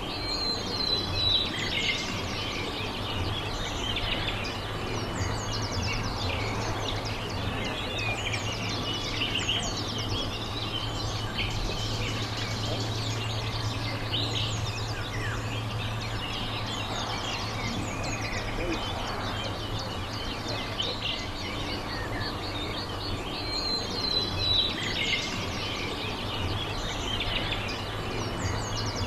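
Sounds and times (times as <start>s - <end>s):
low background hum: 0.0s - 29.0s
small birds chirping and twittering: 0.0s - 29.0s.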